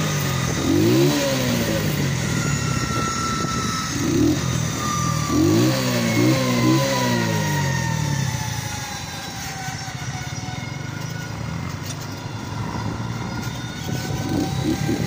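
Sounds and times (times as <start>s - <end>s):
motorcycle engine running: 0.0s - 15.0s
tractor engines: 0.0s - 15.0s
faint high whine: 0.2s - 15.0s.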